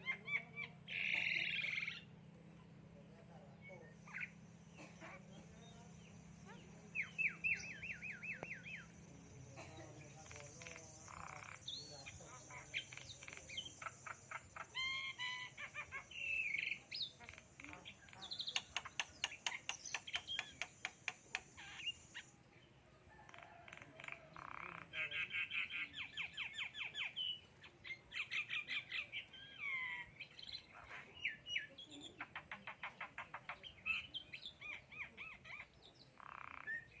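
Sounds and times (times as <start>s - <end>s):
bird chattering and whistling: 0.0s - 37.0s.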